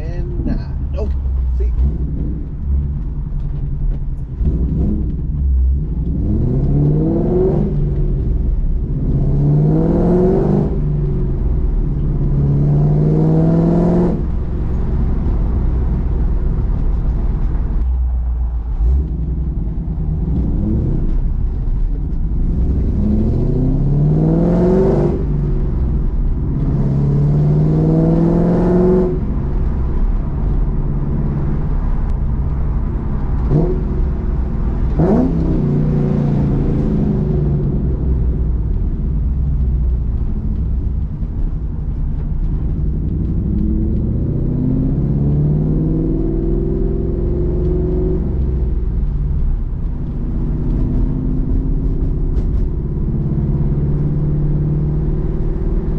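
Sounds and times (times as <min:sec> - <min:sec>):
car engine accelerating through gears: 0:00.0 - 0:55.9.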